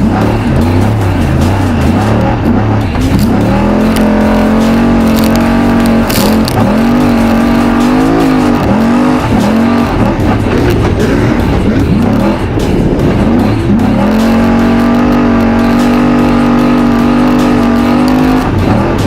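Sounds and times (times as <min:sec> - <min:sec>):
race engine revving: 0:00.0 - 0:19.0.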